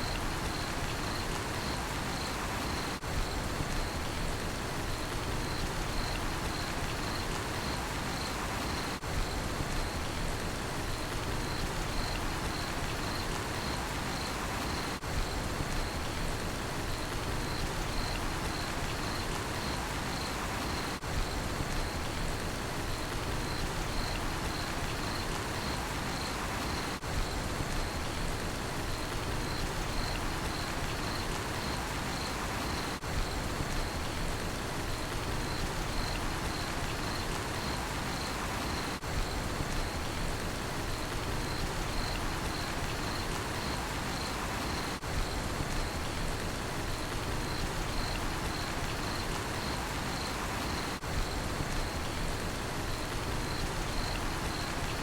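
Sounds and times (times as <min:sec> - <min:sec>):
cricket chirping: 0:00.0 - 0:04.2, 0:04.9 - 0:10.2, 0:11.0 - 0:16.2, 0:16.8 - 0:22.2, 0:22.9 - 0:28.2, 0:28.8 - 0:34.2, 0:34.9 - 0:46.3, 0:46.9 - 0:55.0
rain falling: 0:00.0 - 0:55.0.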